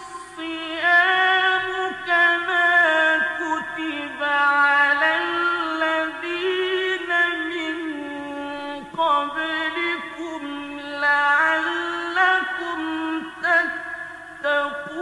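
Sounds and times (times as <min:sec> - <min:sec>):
person singing chant: 0:00.0 - 0:15.0.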